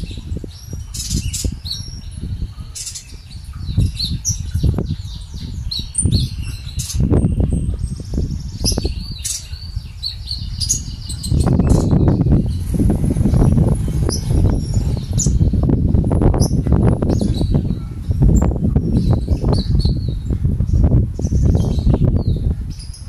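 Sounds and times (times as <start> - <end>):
bird singing chirps and trills: 0.0 - 23.0.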